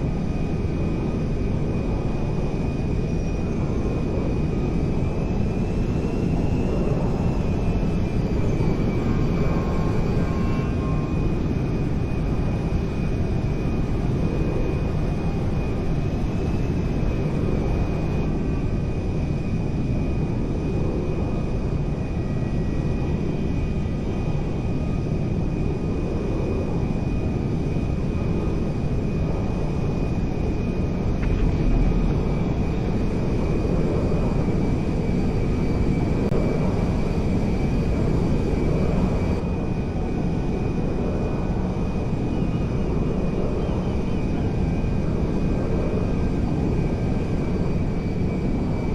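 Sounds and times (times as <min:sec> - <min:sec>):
aircraft engine rumble: 0:00.0 - 0:48.9
thin steady whine: 0:00.0 - 0:48.9.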